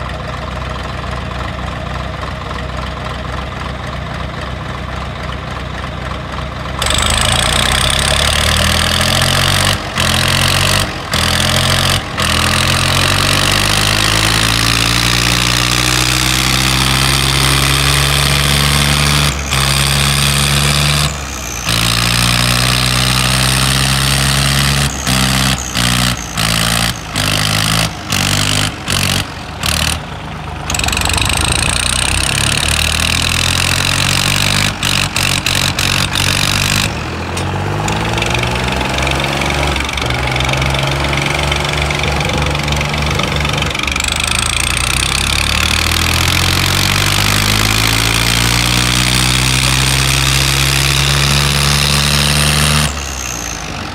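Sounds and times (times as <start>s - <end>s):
diesel tractor engines straining: 0.0s - 53.9s.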